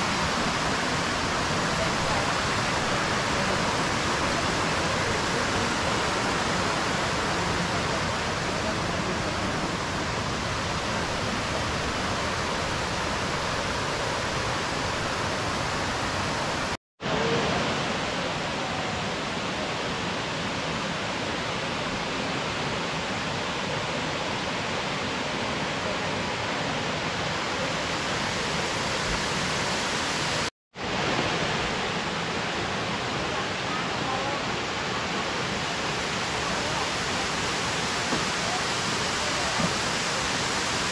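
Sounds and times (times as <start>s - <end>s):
waterfall rushing into pools: 0.0s - 40.9s.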